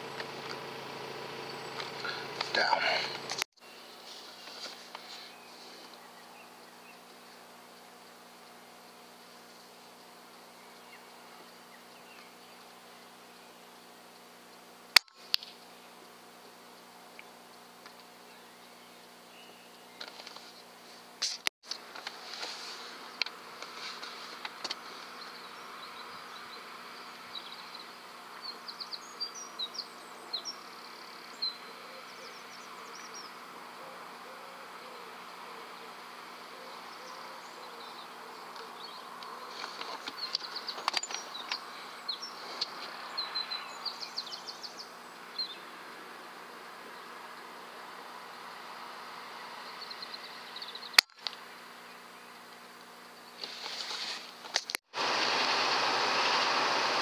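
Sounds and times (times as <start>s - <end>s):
small birds chirping: 0.0s - 54.7s
steady buzzing hiss: 0.0s - 57.0s.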